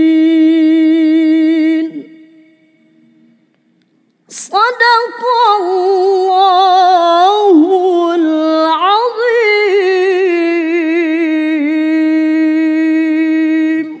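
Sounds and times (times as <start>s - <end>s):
woman chanting recitation: 0.0s - 2.4s, 4.3s - 14.0s.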